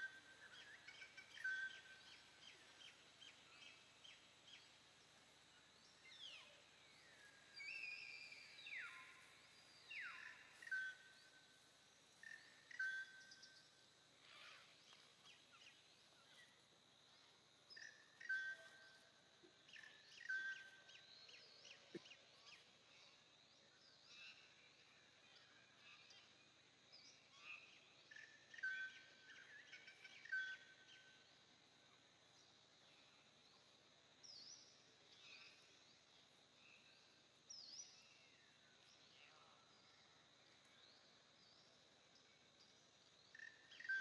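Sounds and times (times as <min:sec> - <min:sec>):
faint background noise: 0:00.0 - 0:44.0.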